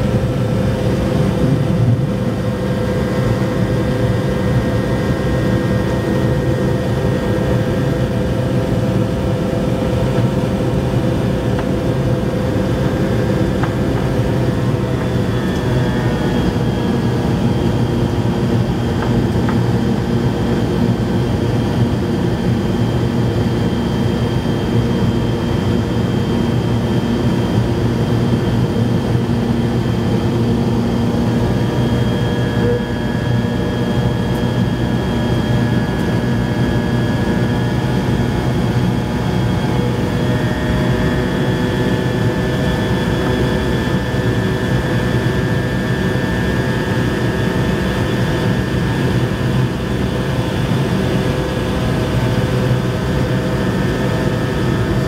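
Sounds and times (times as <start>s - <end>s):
jet engine drone and whine in cabin: 0.0s - 55.0s.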